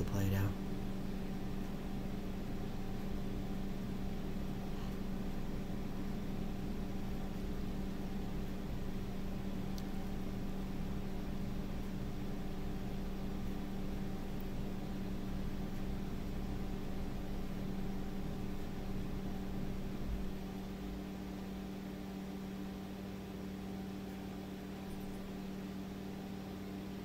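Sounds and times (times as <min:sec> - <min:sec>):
room noise hiss: 0:00.0 - 0:27.0
steady low hum: 0:00.0 - 0:27.0.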